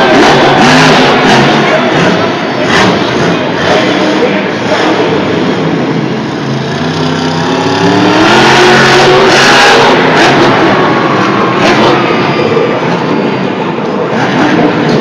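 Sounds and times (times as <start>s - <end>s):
monster truck engine revving: 0.0s - 15.0s
roar of arena noise: 0.0s - 15.0s.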